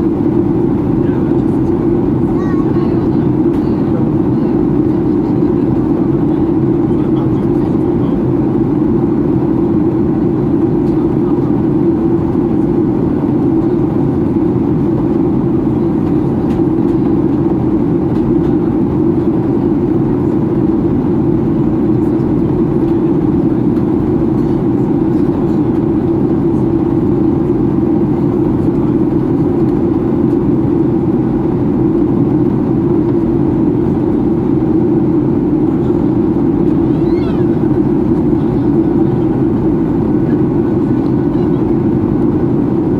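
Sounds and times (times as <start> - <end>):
airplane cabin airflow rush: 0.0 - 42.9
low drone of jet engines: 0.0 - 42.9.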